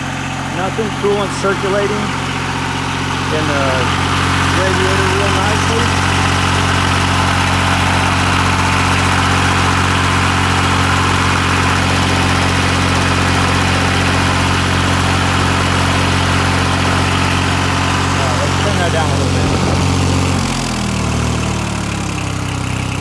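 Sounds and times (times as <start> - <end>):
diesel tractor engine running: 0.0 - 23.0.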